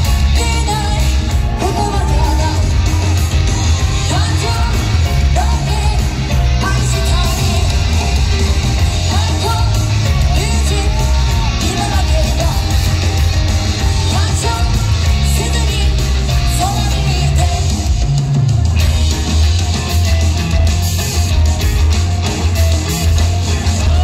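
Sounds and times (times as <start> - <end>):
heavy-bass backing track: 0.0 - 24.0.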